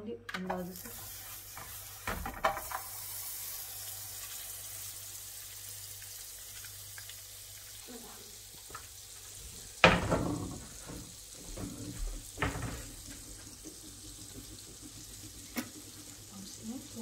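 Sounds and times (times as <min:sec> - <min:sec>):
butter sizzling in a frying pan: 0:00.6 - 0:17.0.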